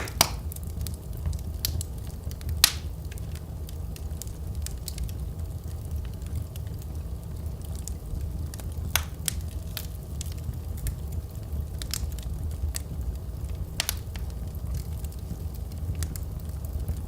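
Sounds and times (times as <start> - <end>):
fire crackles and pops: 0.0 - 17.0
low rumble of flames: 0.0 - 17.0.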